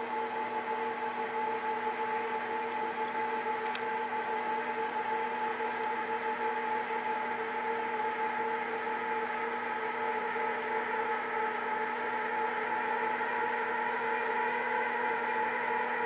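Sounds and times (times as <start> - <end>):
machine hum and whir: 0.0 - 16.0.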